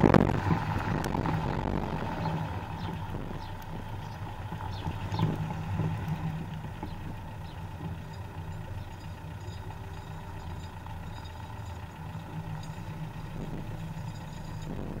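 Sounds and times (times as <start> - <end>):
diesel car engine low hum: 0.0 - 15.0.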